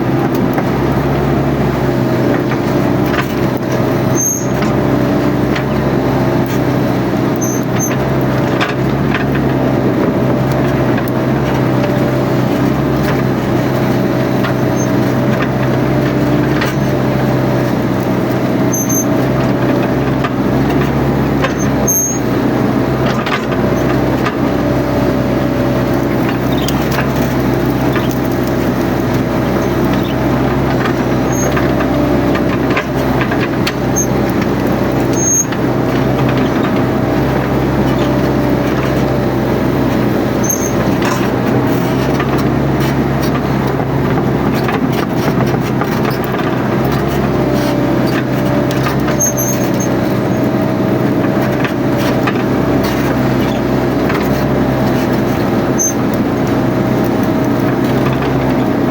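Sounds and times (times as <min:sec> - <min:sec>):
excavator diesel engine droning: 0:00.0 - 0:58.9.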